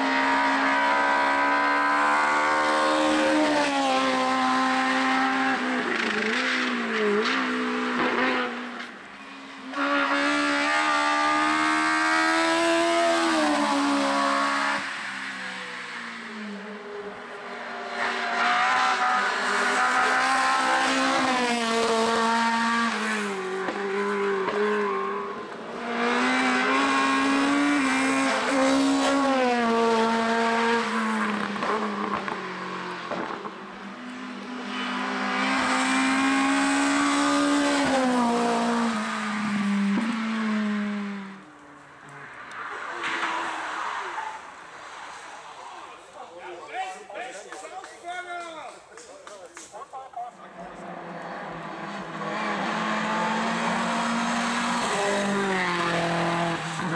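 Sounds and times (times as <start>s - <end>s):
race car engines revving: 0.0s - 56.9s.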